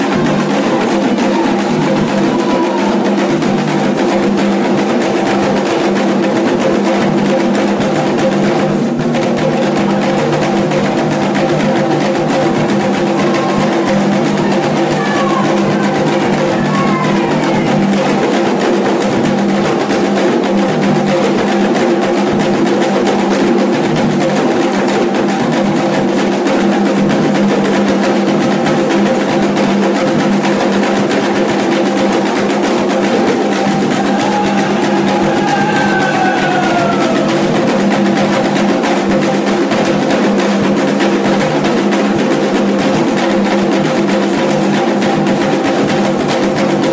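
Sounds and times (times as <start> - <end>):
fast hand drumming: 0.0 - 46.9.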